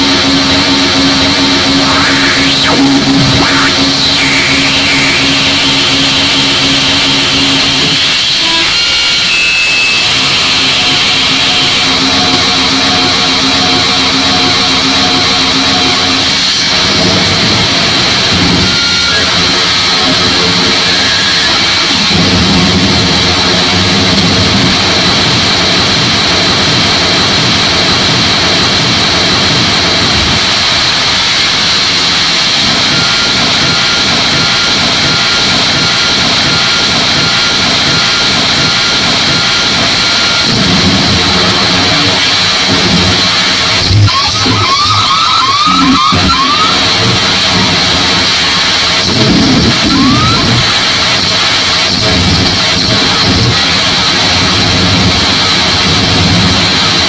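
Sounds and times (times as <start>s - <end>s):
droning tones: 0.0s - 57.0s
loud static noise: 0.0s - 57.0s.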